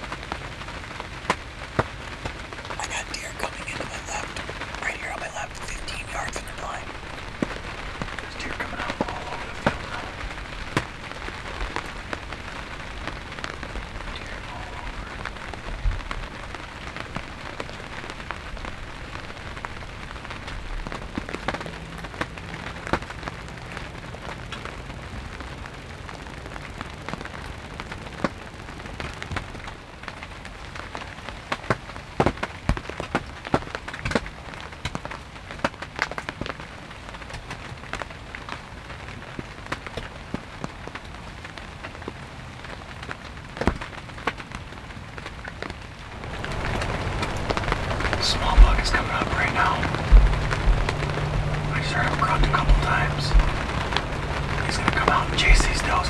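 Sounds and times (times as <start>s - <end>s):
raindrops tapping close by: 0.0s - 56.0s
steady rain falling: 0.0s - 56.0s.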